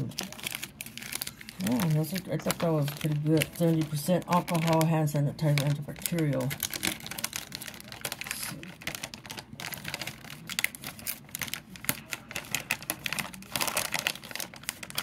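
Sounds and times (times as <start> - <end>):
packaged items clicking and rustling: 0.0 - 15.0.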